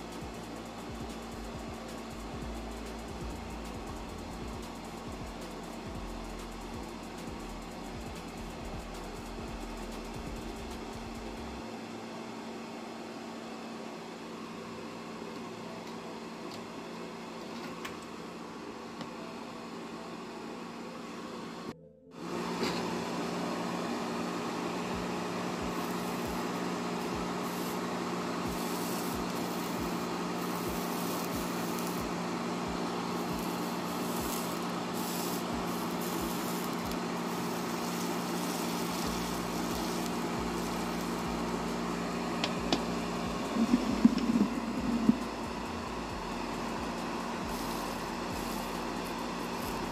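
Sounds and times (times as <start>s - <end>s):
fan humming: 0.0s - 21.6s, 22.2s - 49.9s.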